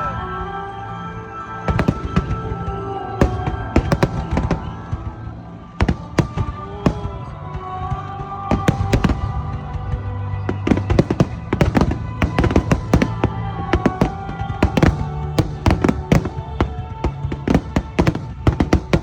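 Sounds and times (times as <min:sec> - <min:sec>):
background music with held notes: 0:00.0 - 0:19.0
fireworks bangs and crackles: 0:01.7 - 0:19.0.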